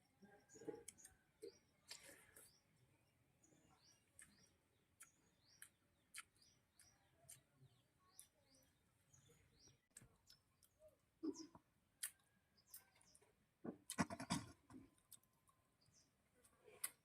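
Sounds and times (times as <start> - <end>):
faint bird chirps: 0.0 - 15.2.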